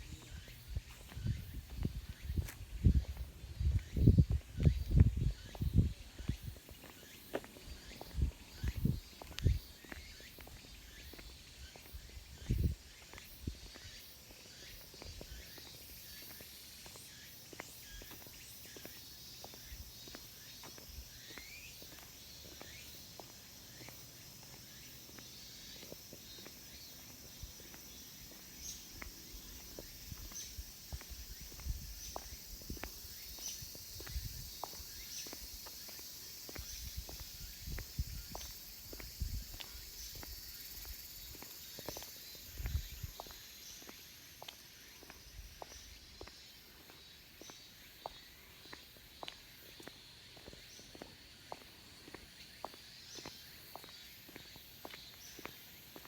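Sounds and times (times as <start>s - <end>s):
cicadas chorus: 0.0s - 56.0s
footsteps walking: 0.1s - 56.0s.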